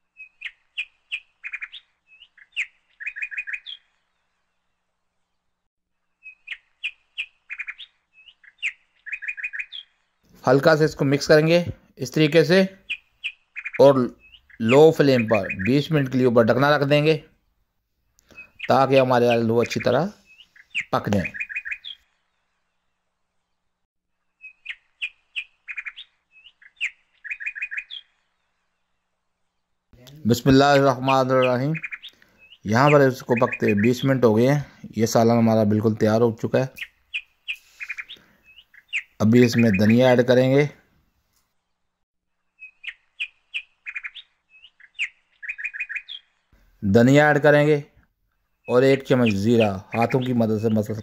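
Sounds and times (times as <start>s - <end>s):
small bird chirping: 0.0s - 35.0s, 35.6s - 51.0s.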